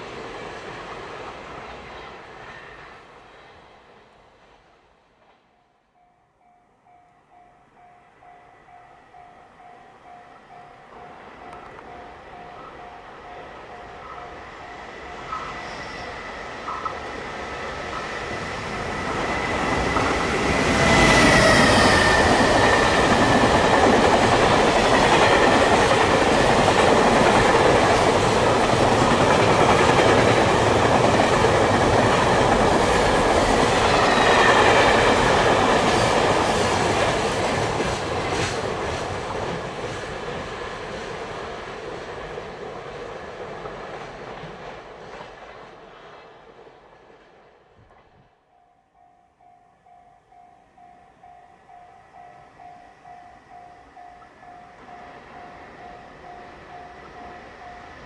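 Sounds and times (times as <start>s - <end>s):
freight train passing: 0.0s - 58.0s
rail noise of wagons: 0.0s - 58.0s.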